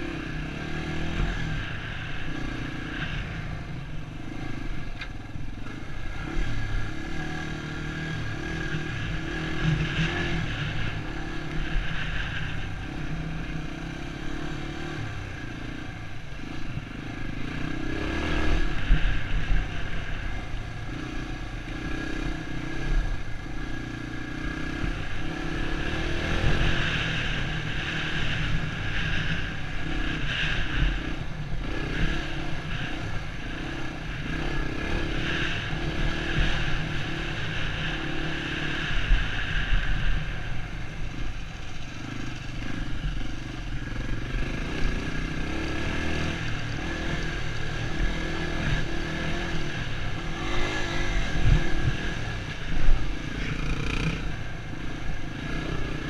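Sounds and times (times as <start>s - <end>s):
dirt bike engine revving: 5.6s - 20.2s, 20.9s - 40.3s, 41.1s - 56.0s.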